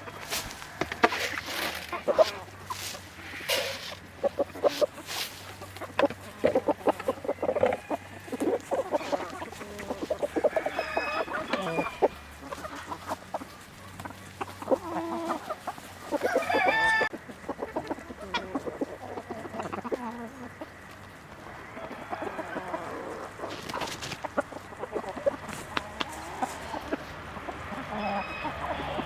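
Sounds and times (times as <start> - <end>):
chicken squawking: 0.0 - 20.7, 22.5 - 29.0
chickens clucking: 0.0 - 29.0.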